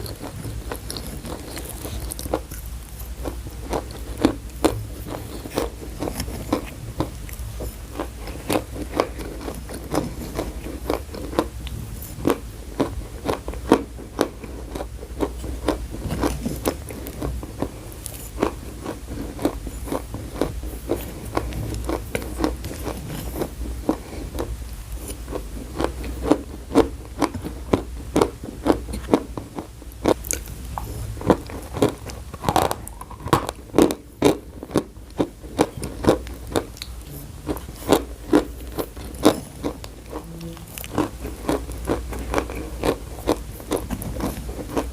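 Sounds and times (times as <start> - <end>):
chalk being chewed: 0.0 - 44.9.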